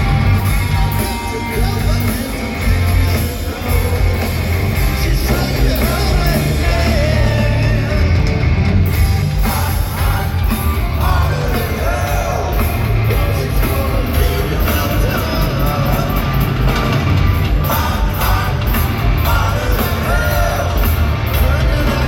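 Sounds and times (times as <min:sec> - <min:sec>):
bass guitar: 0:00.0 - 0:22.0
electric guitars: 0:00.0 - 0:22.0
man singing lead vocal: 0:00.8 - 0:08.5, 0:09.2 - 0:16.8, 0:17.5 - 0:22.0.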